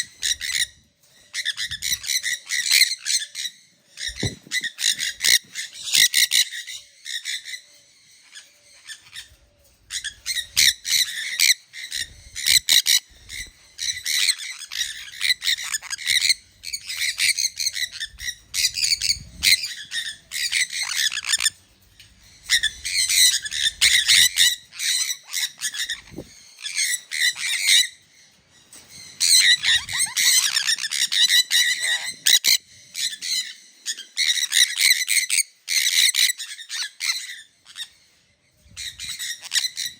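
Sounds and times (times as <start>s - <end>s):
parrots squawking shrilly: 1.3s - 7.7s, 9.9s - 21.6s, 22.5s - 27.9s, 29.2s - 37.9s, 38.8s - 39.9s.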